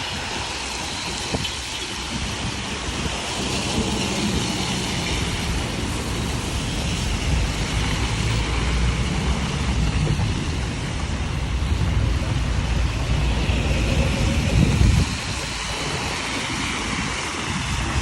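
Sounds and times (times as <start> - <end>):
heavy rain hiss: 0.0 - 18.0
wind buffeting microphone: 0.0 - 18.0.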